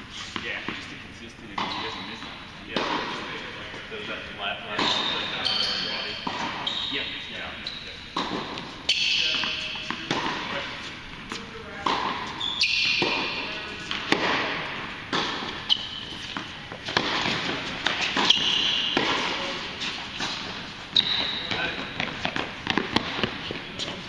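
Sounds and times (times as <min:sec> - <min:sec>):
tennis balls struck by rackets: 0:01.5 - 0:03.6, 0:04.7 - 0:07.5, 0:08.1 - 0:24.0
tennis balls bouncing on hard court: 0:01.5 - 0:03.8, 0:04.7 - 0:24.0
sneakers squeaking on court: 0:01.5 - 0:03.9, 0:04.7 - 0:24.0.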